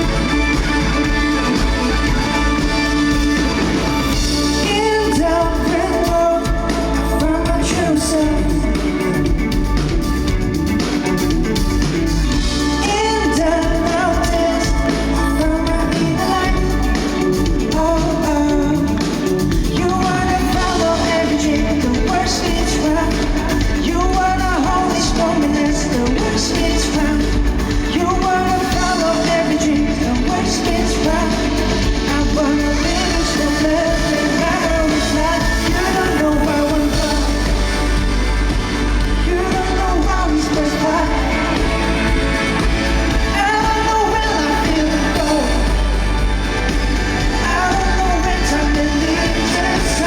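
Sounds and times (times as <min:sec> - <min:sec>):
lead singer singing: 0:00.0 - 0:50.0
live pop-rock band playing: 0:00.0 - 0:50.0.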